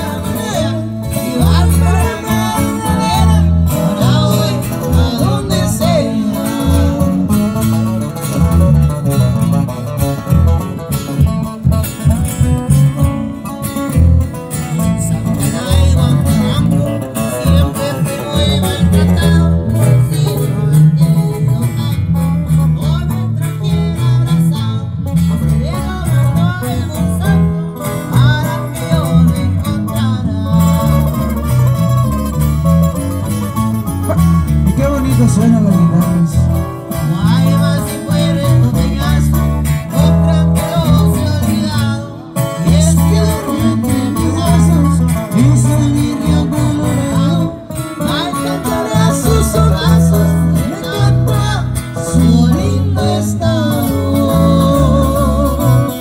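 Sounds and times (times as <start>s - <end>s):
acoustic guitars strumming: 0.0s - 56.0s
bouncing bass line: 0.0s - 56.0s.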